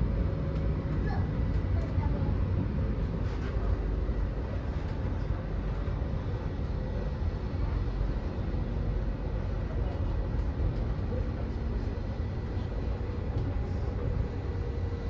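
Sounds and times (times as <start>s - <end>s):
wheels rumbling on track: 0.0s - 15.0s.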